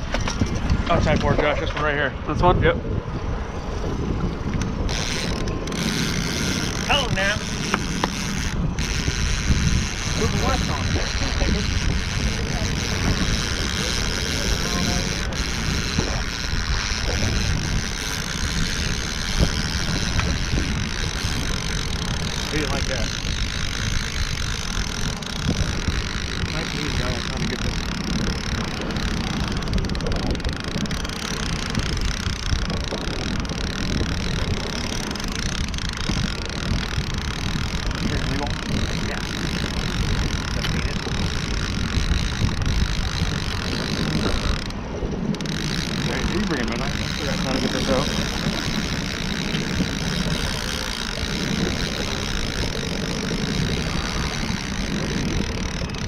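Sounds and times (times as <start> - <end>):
outboard motor running: 0.0 - 56.0
wind buffeting microphone: 0.0 - 56.0.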